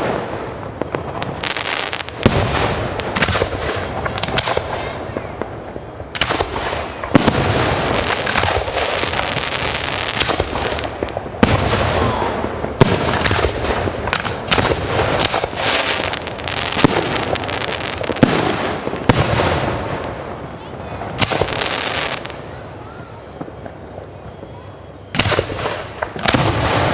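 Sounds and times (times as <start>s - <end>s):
fireworks bangs: 0.0s - 26.9s
fireworks crackle: 0.0s - 26.9s.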